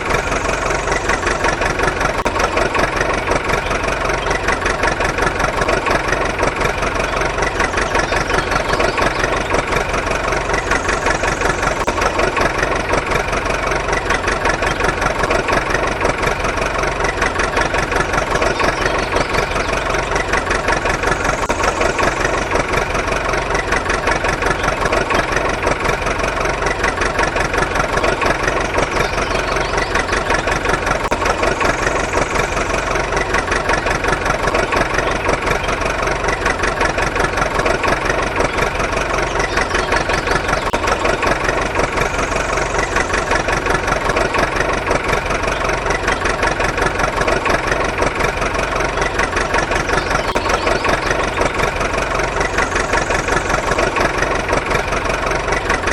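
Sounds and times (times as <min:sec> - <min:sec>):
small motor chattering: 0:00.0 - 0:55.9.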